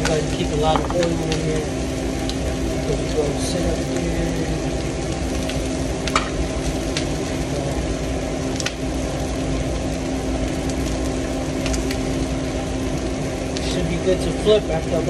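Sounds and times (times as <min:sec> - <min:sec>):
exhaust fan humming: 0:00.0 - 0:15.0
food sizzling in oil: 0:00.0 - 0:15.0.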